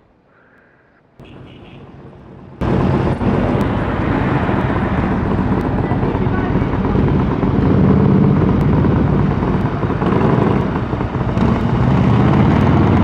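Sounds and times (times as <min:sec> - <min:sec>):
street traffic rumble: 0:00.0 - 0:13.0
motorcycle approaching: 0:02.6 - 0:13.0.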